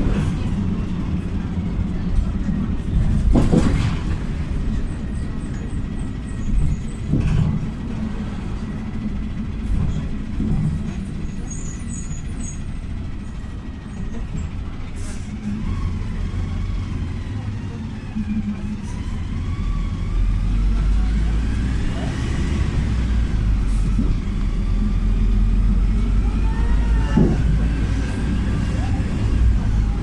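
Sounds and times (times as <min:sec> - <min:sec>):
bus engine rumble: 0:00.0 - 0:30.0.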